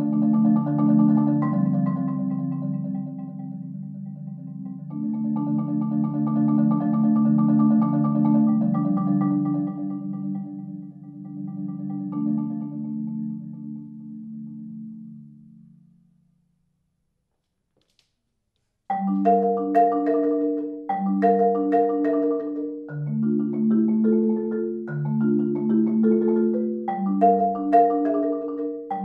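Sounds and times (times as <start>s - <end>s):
marimba rolled chords: 0.0s - 16.0s, 18.9s - 29.0s.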